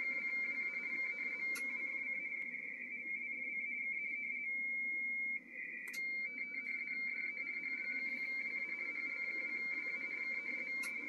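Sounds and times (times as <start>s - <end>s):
two-tone data signal warble: 0.0s - 11.0s.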